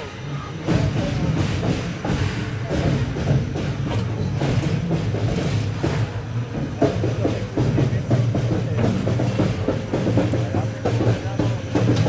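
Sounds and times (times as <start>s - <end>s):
low rumble of locomotive: 0.0s - 12.0s.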